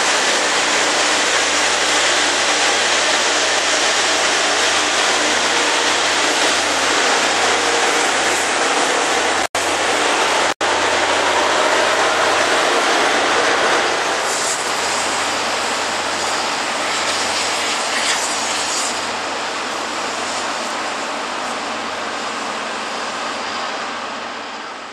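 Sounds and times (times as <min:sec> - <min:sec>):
rail grinder grinding hiss: 0:00.0 - 0:24.9
train running noise: 0:00.0 - 0:24.9.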